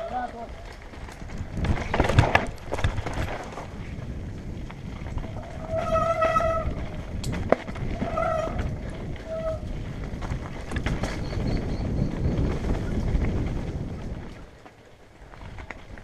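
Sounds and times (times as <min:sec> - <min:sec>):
bike rattling and knocking: 0:00.0 - 0:16.0
bike tyre and wind rumble: 0:00.0 - 0:16.0.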